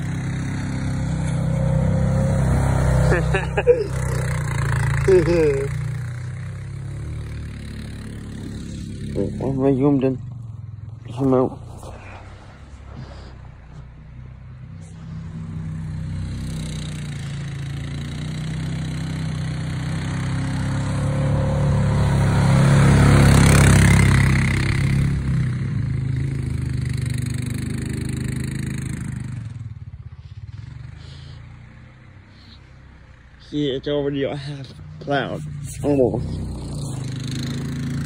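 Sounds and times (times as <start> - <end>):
atv engine pushing snow: 0.0 - 38.0.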